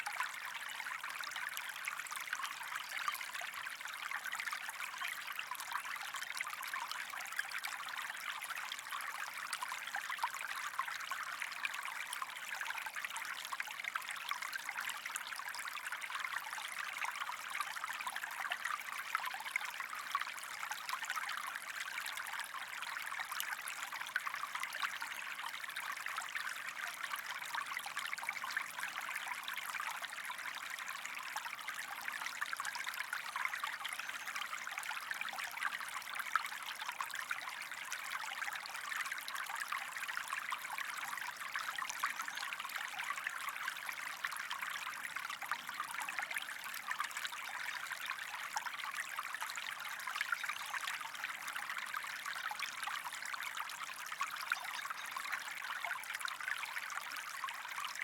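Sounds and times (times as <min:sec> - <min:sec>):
small stream trickling: 0:00.0 - 0:58.0.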